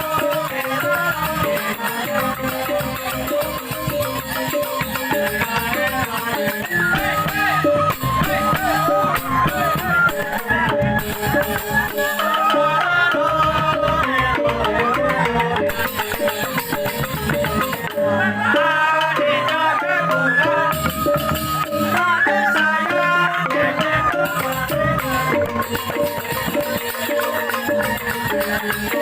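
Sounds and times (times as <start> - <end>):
drum: 0.0 - 19.6, 23.4 - 29.0
bamboo xylophones: 0.0 - 29.0
rattling percussion: 0.0 - 29.0.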